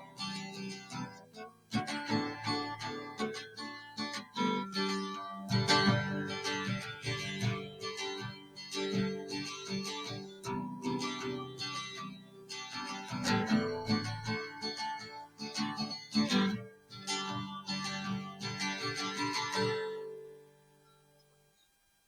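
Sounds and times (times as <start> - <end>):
acoustic guitar music: 0.0 - 21.4.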